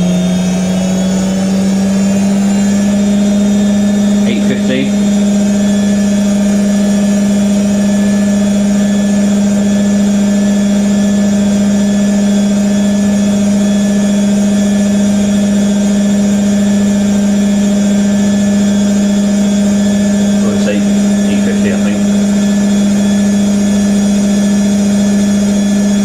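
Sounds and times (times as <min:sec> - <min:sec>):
washing machine spinning: 0:00.0 - 0:26.0.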